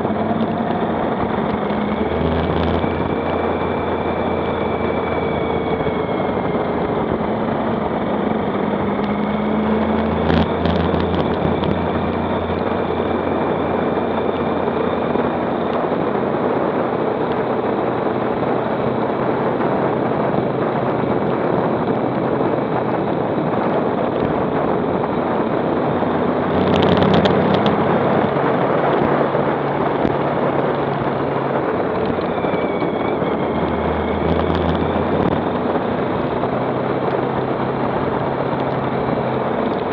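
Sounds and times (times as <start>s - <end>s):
motorcycle engine: 0.0s - 39.9s
wind noise rushing: 0.0s - 39.9s.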